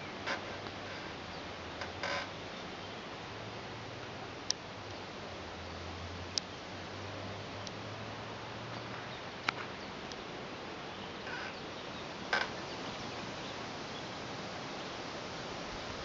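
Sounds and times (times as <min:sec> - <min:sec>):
steady outdoor background hiss: 0:00.0 - 0:16.0.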